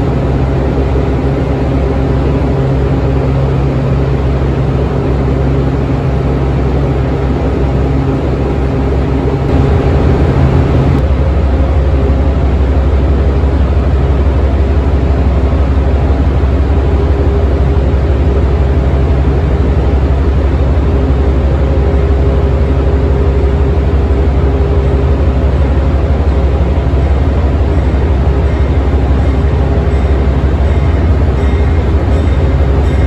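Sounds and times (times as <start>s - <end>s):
diesel locomotive engine rumbling: 0.0s - 33.0s.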